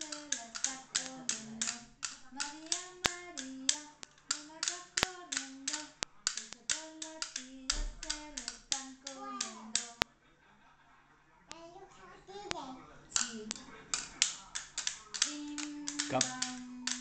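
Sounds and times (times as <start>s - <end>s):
hand clapping in rhythm: 0.0s - 10.0s, 13.2s - 17.0s
person singing: 0.0s - 10.0s, 13.2s - 17.0s.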